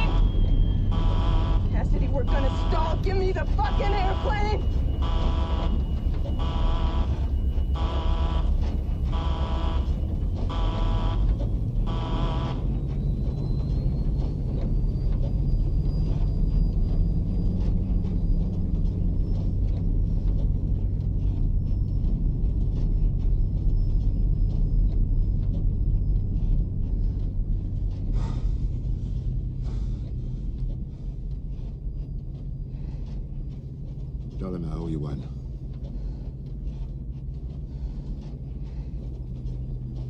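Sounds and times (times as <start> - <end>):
faint high whine: 0.0 - 40.0
jet engines rumbling in cockpit: 0.0 - 40.0.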